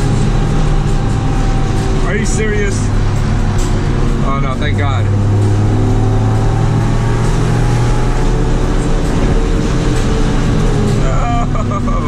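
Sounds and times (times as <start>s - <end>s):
car engine droning at cruise: 0.0s - 12.0s.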